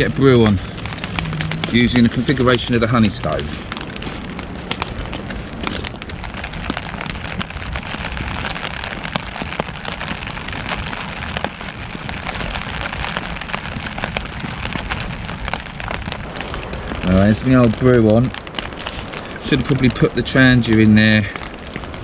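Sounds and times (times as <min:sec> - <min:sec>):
rain pattering: 0:00.0 - 0:22.0
raindrops ticking: 0:00.0 - 0:22.0.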